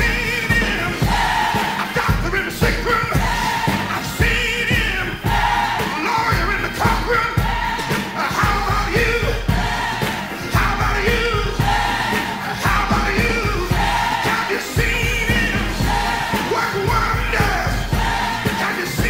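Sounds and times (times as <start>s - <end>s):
choir singing: 0.0s - 19.0s
disco rhythm section: 0.0s - 19.0s.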